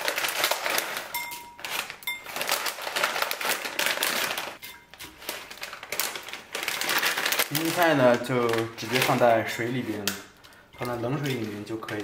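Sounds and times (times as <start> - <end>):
dried buds crackling into water: 0.0 - 12.0
plastic bag crinkling: 0.0 - 12.0.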